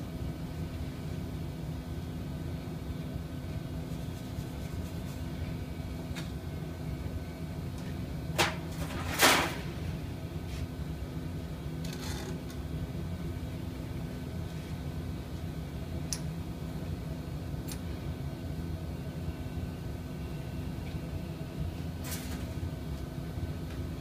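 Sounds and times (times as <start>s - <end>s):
workshop machinery hum: 0.0s - 24.0s.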